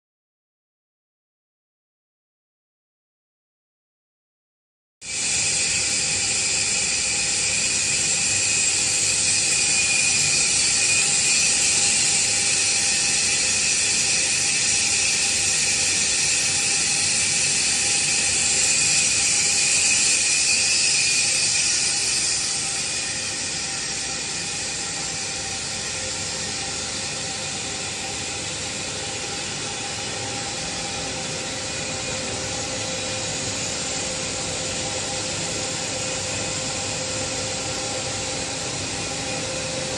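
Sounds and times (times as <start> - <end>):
boiler burner hiss: 5.0 - 39.9
steady whining tones: 5.0 - 39.9.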